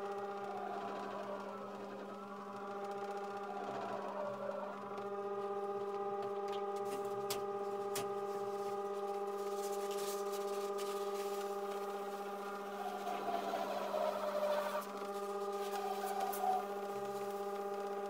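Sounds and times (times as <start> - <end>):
electric motor humming: 0.0 - 18.0
polishing pad rubbing cymbal: 0.0 - 18.0.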